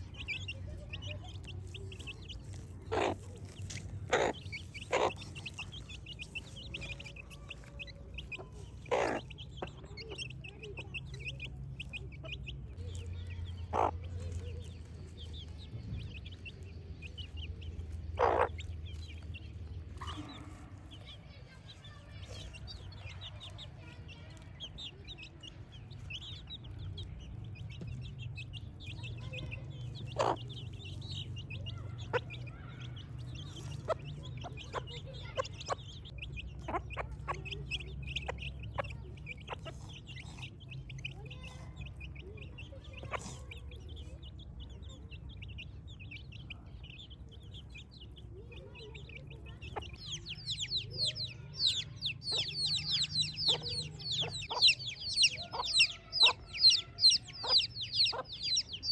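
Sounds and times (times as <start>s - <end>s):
chickens clucking: 0.0s - 58.9s
chicks peeping: 0.0s - 58.9s.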